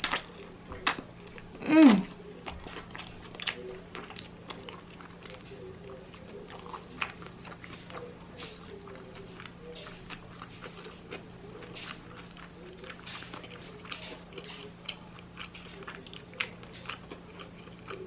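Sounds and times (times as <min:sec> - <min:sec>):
close-up chewing: 0:00.0 - 0:18.0.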